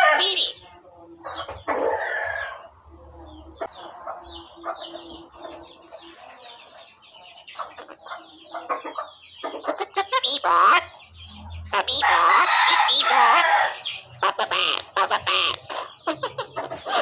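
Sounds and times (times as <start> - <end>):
bird chirping: 0.0 - 2.6, 3.2 - 17.0.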